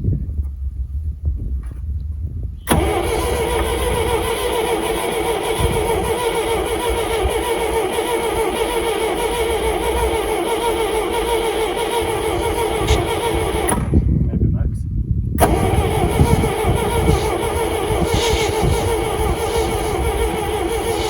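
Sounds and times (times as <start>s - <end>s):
starter motor cranking engine: 2.7s - 14.2s, 15.4s - 21.0s.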